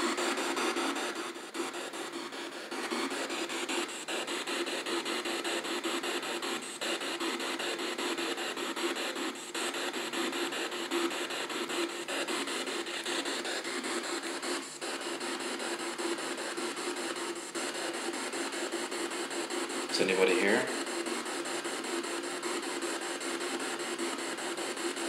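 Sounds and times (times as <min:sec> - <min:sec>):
radio static with rapid clicks: 0:00.0 - 0:25.0.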